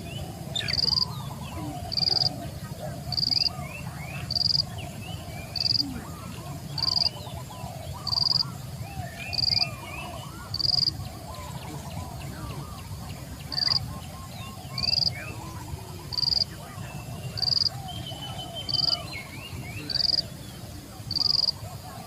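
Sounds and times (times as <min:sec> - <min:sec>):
soft bird calls: 0:00.0 - 0:22.0.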